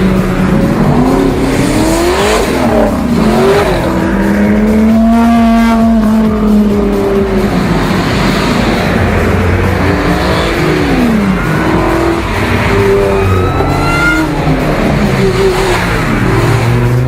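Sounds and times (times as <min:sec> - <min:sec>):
sports car engines revving: 0:00.0 - 0:17.0.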